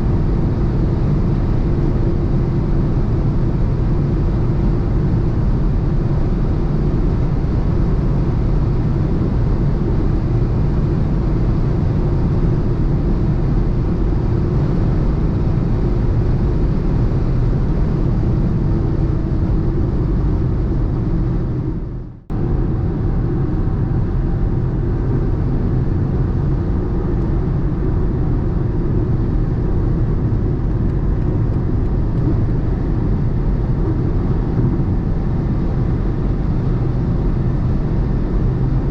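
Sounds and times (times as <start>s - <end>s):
car engine at speed: 0.0s - 38.9s
wind noise: 0.0s - 38.9s.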